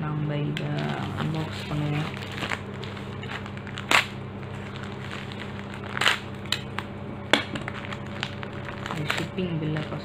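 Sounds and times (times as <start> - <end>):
plastic mailer tearing: 0.7 - 6.9, 7.6 - 10.0.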